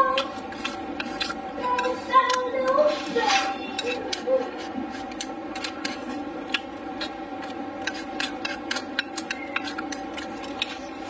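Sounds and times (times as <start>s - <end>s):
background hum: 0.0s - 11.0s
person chewing food: 0.0s - 11.0s.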